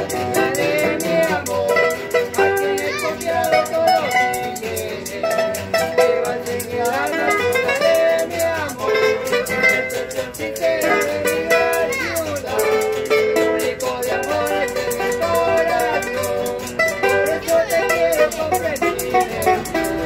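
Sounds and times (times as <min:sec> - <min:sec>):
picked guitar melody: 0:00.0 - 0:20.0
strummed guitar chords: 0:00.0 - 0:20.0.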